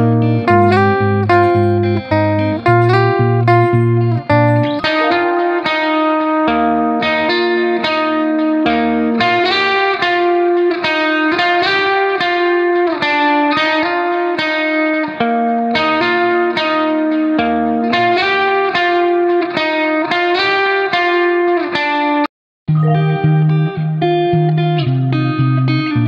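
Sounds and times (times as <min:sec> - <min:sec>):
plucked guitar: 0:00.0 - 0:26.0.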